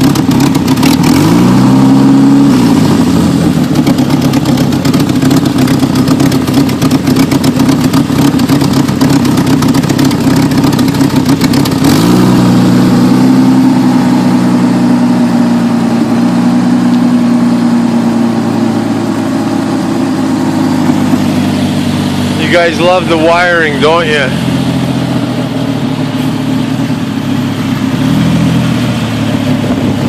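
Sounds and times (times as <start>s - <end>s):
car engine running unevenly: 0.0s - 30.0s.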